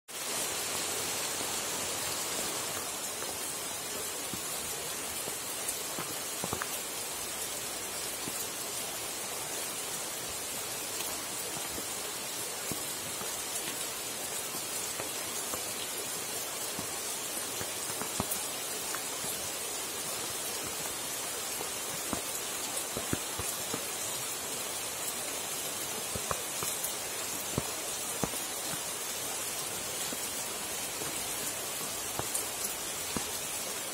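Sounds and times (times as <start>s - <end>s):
close raindrops striking: 0.1s - 33.9s
rain on leaves and pavement: 0.1s - 33.9s.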